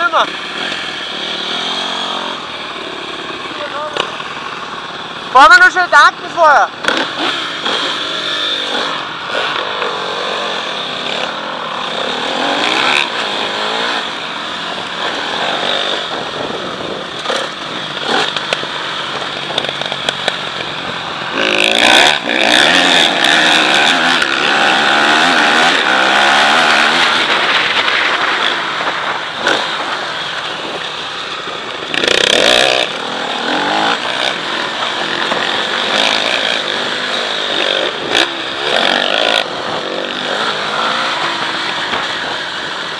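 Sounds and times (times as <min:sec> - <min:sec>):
motocross engine revving: 0:00.0 - 0:42.9.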